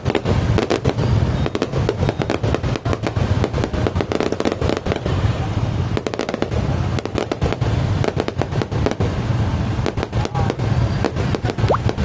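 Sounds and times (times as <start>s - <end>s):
continuous low rumble: 0.0s - 12.0s
fireworks bangs and cracks: 0.0s - 12.0s.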